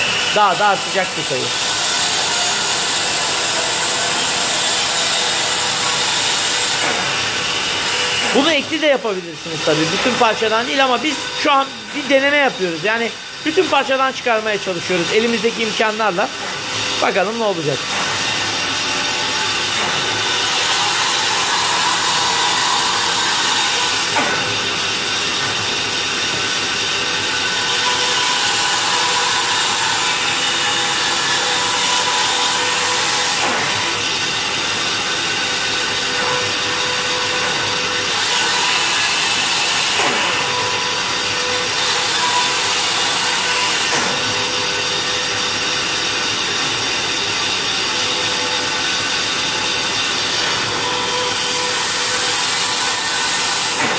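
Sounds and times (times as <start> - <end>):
bandsaw cutting wood: 0.0 - 53.9.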